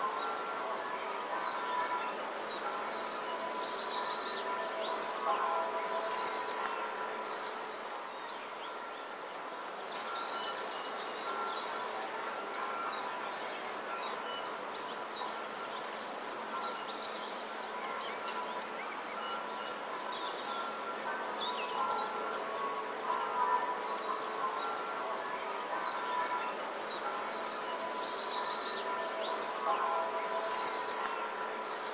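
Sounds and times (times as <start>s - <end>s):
birds chirping: 0.0s - 31.9s.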